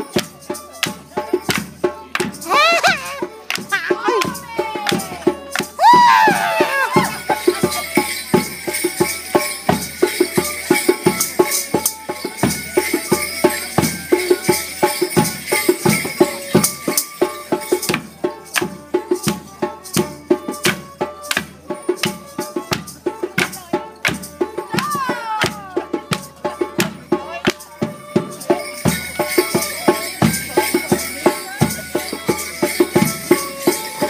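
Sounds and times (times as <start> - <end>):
lively folk music: 0.0 - 34.0.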